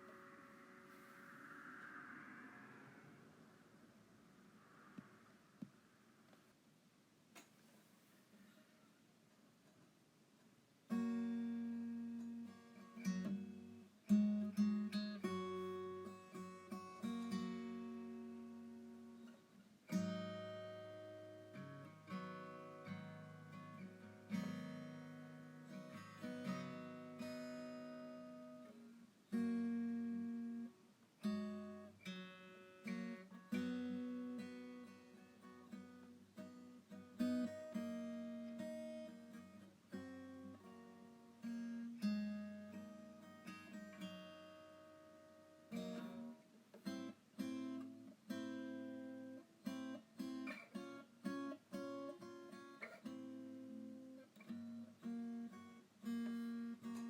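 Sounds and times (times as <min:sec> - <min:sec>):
acoustic guitar music: 0:00.0 - 0:01.3, 0:10.8 - 0:57.0.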